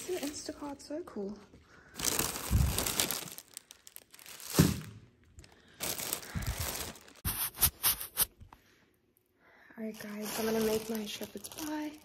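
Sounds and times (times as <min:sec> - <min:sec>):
plastic bags rustling: 0:00.0 - 0:08.2, 0:09.8 - 0:12.0.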